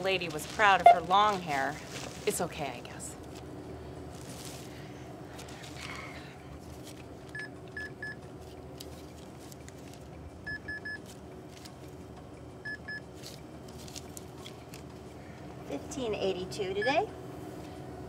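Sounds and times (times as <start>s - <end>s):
faint store hum: 0.0s - 18.0s.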